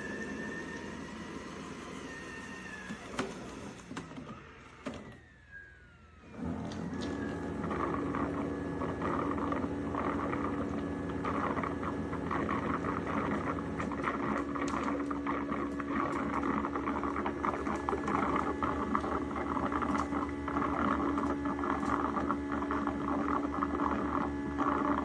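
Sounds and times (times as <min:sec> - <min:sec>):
motor humming and rattling: 0:00.0 - 0:25.0
robot vacuum motor whine: 0:00.0 - 0:25.0.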